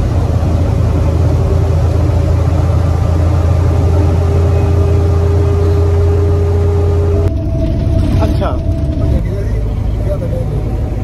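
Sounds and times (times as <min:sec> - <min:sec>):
faint steady whine: 0:00.0 - 0:11.0
road noise: 0:00.0 - 0:11.0
van engine drone: 0:00.0 - 0:11.0.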